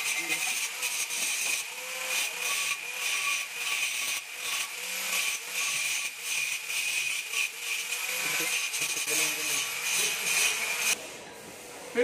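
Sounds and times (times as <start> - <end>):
angle grinder grinding metal: 0.0 - 11.0.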